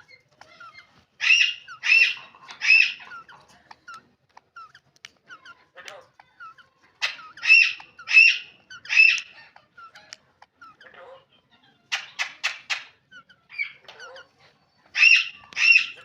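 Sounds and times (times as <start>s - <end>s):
parrot squawking: 0.0s - 16.0s
small bird chirps: 0.0s - 16.0s.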